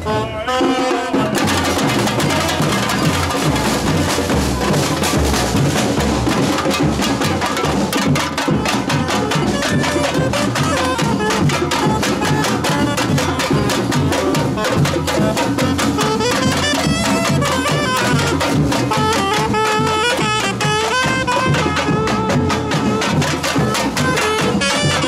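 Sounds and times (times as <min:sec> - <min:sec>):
samba drums: 0:00.0 - 0:25.0
saxophone melody: 0:00.0 - 0:25.0.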